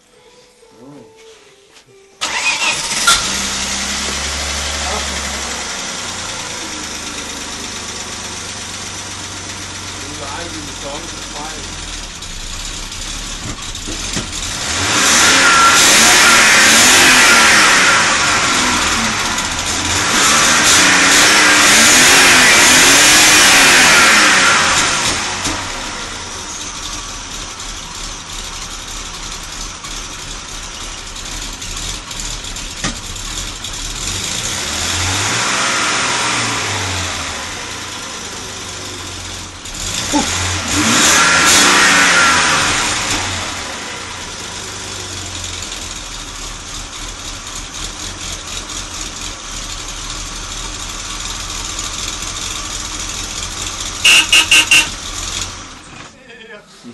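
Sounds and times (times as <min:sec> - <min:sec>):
car engine revving and idling: 0:02.2 - 0:56.2.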